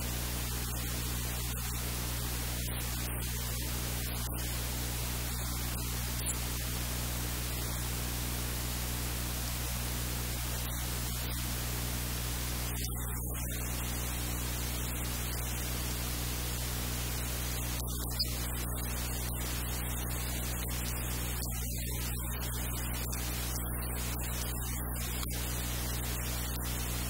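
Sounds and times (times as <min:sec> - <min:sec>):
low electrical hum: 0:00.0 - 0:27.0
static hiss: 0:00.0 - 0:27.0.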